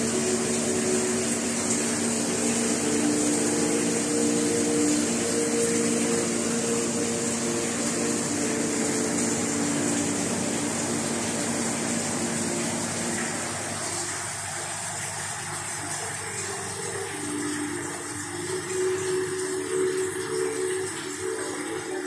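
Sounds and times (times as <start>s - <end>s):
low steady tones: 0.0s - 14.2s, 15.7s - 22.0s
aquarium air pumps humming: 0.0s - 22.0s
water bubbling: 0.0s - 22.0s.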